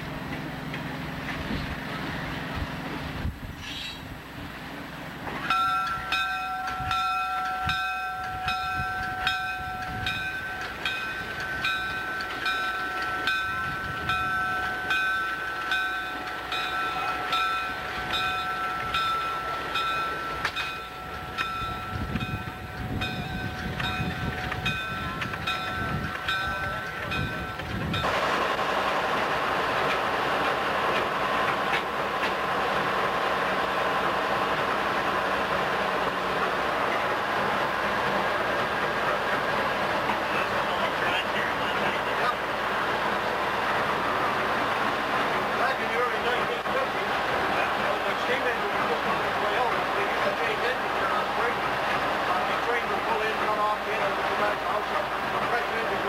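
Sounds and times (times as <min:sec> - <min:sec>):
locomotive engine rumble: 0:00.0 - 0:56.0
locomotive bell ringing: 0:05.2 - 0:56.0.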